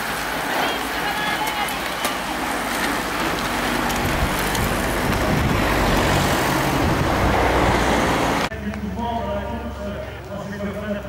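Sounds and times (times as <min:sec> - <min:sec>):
cyclists rushing past: 0:00.0 - 0:11.0.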